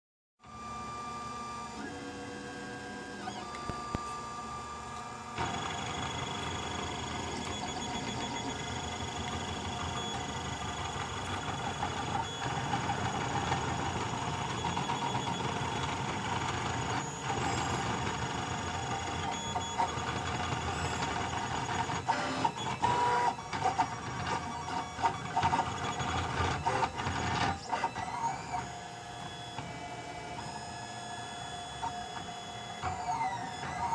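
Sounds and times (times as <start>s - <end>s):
printer stepper motors whining: 0.4s - 33.9s.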